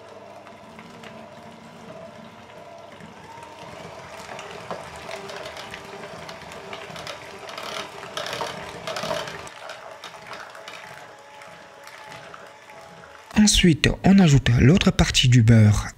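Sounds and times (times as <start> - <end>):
electric hand mixer whine: 0.0 - 14.9.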